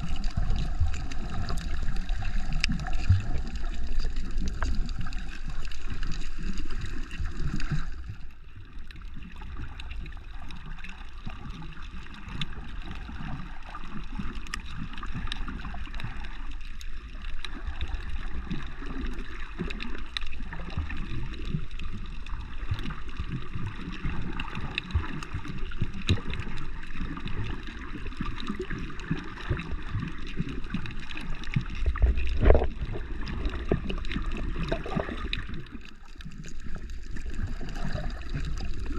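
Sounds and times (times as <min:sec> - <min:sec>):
faint underwater clicks and crackles: 0:00.0 - 0:38.9
water gurgling and sloshing: 0:00.0 - 0:38.9.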